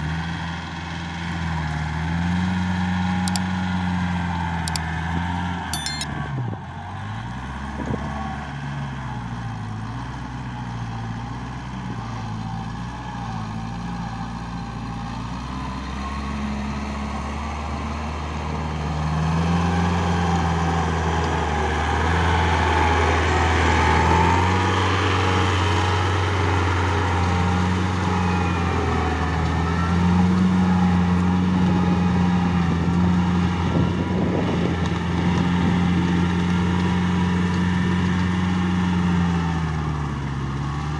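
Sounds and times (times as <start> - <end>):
diesel tractor engine under load: 0.0 - 40.9.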